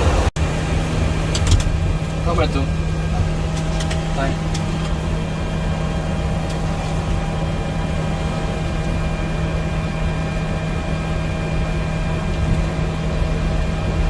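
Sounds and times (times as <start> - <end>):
aircraft cockpit ventilation hum: 0.0 - 14.0.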